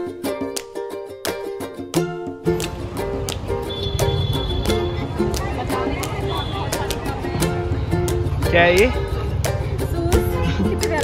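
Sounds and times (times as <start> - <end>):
plucked-string tune: 0.0 - 11.0.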